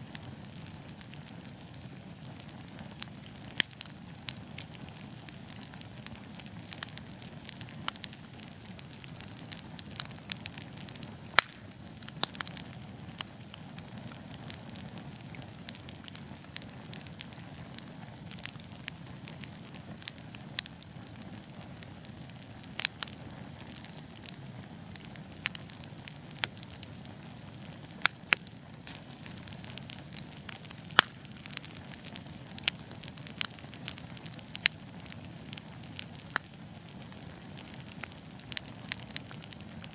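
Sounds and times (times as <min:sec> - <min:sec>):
low hiss of flames: 0:00.0 - 0:39.9
wood fire crackling and popping: 0:00.0 - 0:39.9.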